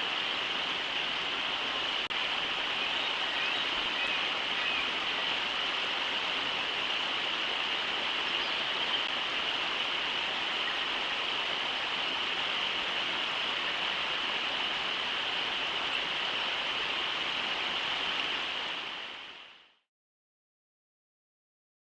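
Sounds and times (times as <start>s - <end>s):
river water rushing: 0.0s - 19.6s.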